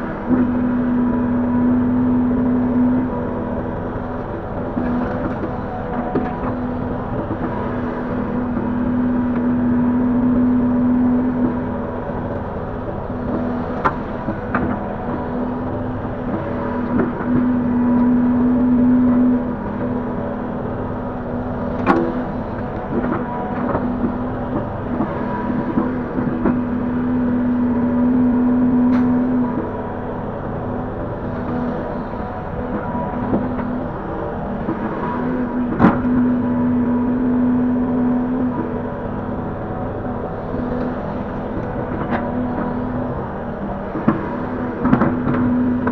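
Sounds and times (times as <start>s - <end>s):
excavator engine drone: 0.0s - 45.9s.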